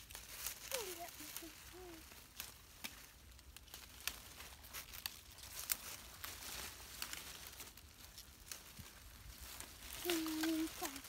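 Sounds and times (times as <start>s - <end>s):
foliage rustling: 0.0s - 11.0s
leafy shoots snapping: 0.0s - 11.0s.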